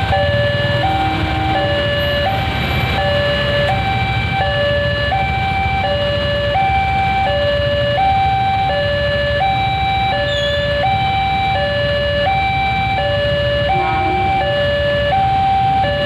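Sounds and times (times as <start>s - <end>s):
motorcycle engines idling: 0.0s - 8.1s, 9.5s - 16.0s
two-tone electronic crossing alarm: 0.0s - 16.0s.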